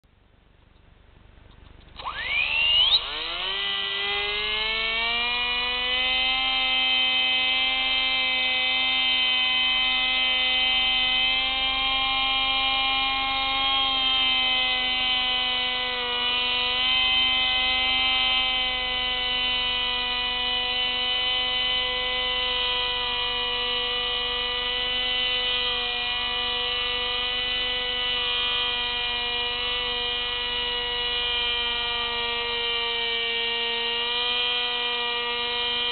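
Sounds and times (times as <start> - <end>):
electric motor whine: 1.9 - 35.9.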